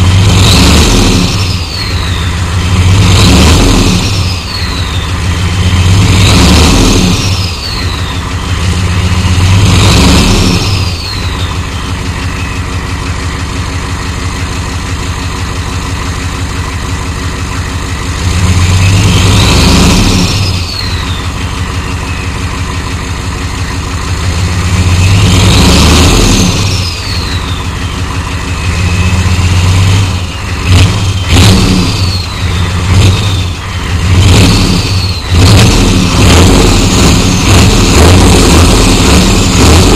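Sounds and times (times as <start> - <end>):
diesel engine idling: 0.0 - 39.9
engine revving: 0.0 - 39.9.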